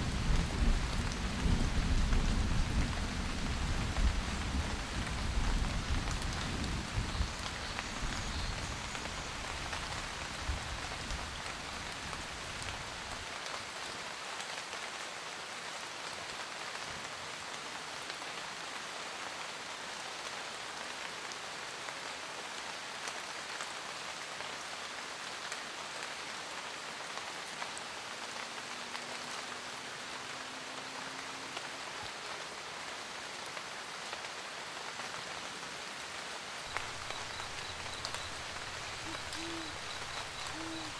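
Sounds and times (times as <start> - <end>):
rain pattering on a roof: 0.0 - 40.9.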